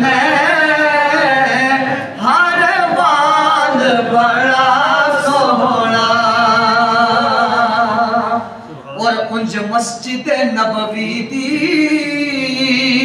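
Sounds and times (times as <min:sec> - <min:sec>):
man singing unaccompanied: 0:00.0 - 0:08.4, 0:09.0 - 0:13.0.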